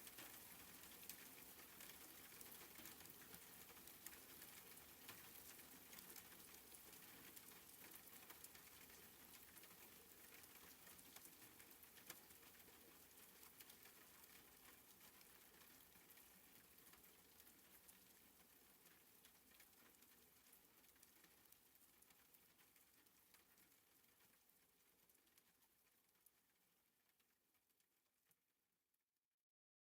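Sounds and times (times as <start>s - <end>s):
faint rain pattering: 0.0s - 28.4s.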